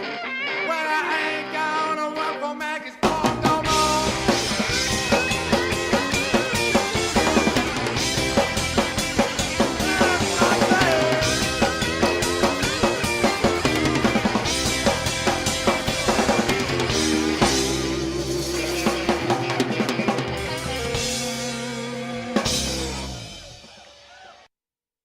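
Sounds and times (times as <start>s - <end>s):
rock band playing live: 0.0s - 24.2s
drum fills: 3.0s - 24.3s.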